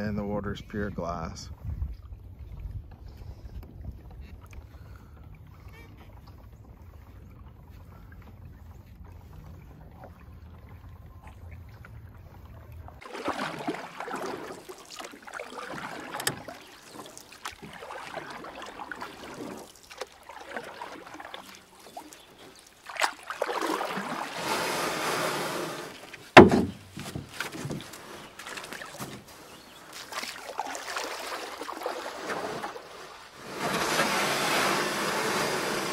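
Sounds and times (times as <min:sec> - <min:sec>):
water splashing around kayak: 0:01.0 - 0:35.9.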